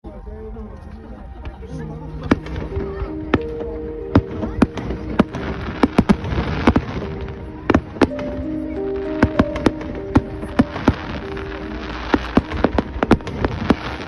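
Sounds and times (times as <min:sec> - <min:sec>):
held musical notes: 0:00.2 - 0:14.0
fireworks crackling: 0:02.1 - 0:14.0
fireworks bangs: 0:02.2 - 0:14.0.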